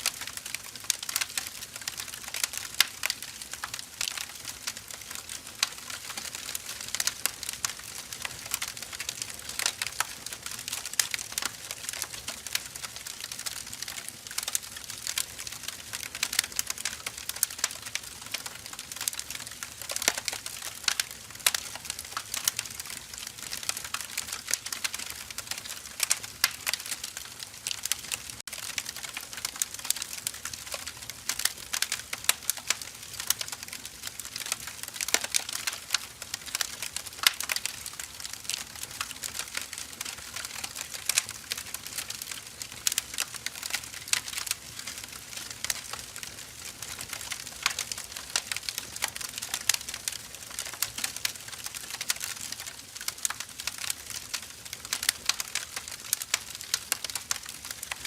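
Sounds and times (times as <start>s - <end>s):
burning logs crackling: 0.0s - 58.0s.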